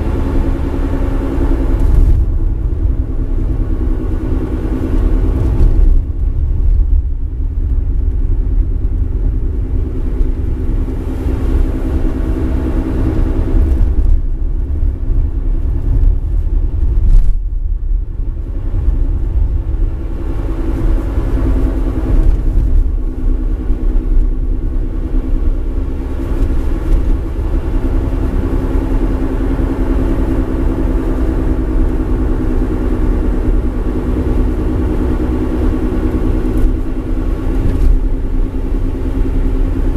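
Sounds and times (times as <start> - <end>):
road rumble: 0.0 - 39.9
wheel bearing drone: 0.0 - 39.9.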